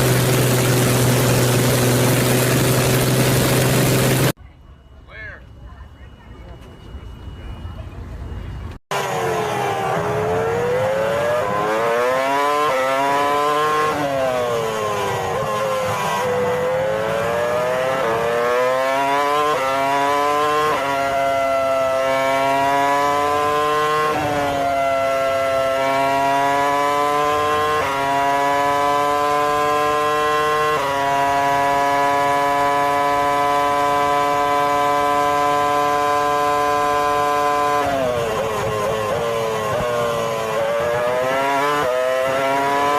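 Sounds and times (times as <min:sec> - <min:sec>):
engine revving: 0:00.0 - 0:04.4, 0:08.9 - 0:42.9.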